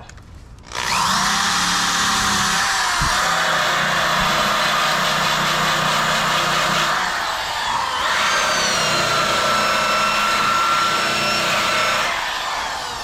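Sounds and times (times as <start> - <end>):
angle grinder on sheet steel: 0.7 - 13.0.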